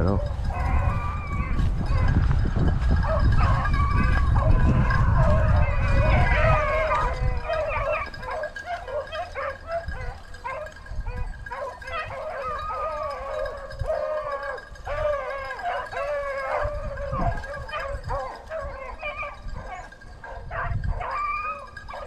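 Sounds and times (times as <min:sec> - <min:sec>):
hounds baying in chorus: 0:00.0 - 0:22.0.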